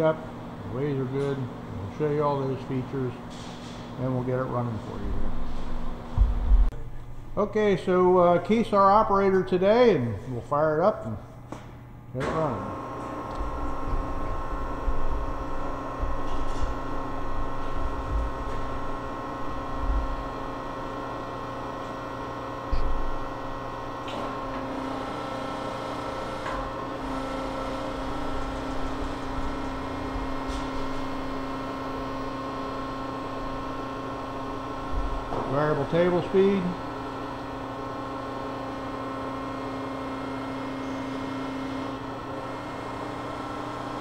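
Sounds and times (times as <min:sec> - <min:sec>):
grinder motor hum: 0:00.0 - 0:10.1, 0:12.2 - 0:44.0.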